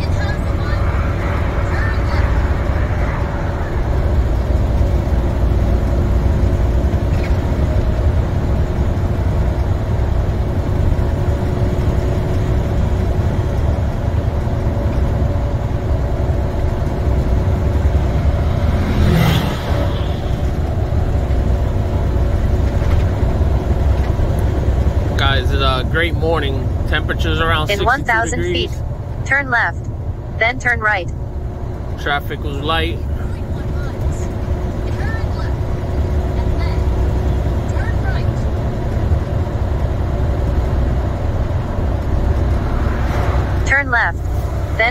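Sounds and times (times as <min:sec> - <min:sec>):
road noise: 0:00.0 - 0:44.9
truck diesel engine droning: 0:00.0 - 0:44.9.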